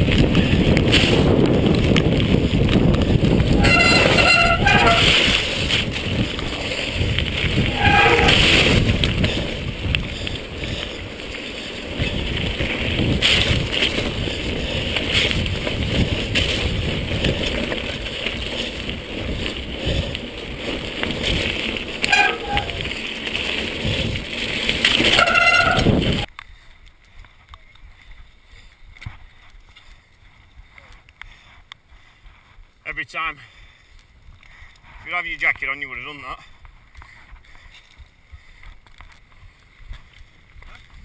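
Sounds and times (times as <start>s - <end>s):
bike rattling: 0.0s - 32.8s, 33.4s - 41.0s
bike tyres roaring on gravel: 0.0s - 41.0s.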